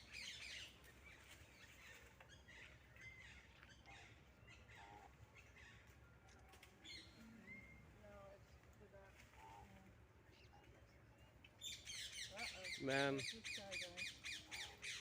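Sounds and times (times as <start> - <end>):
faint bird chirps and calls: 0.0 - 15.0.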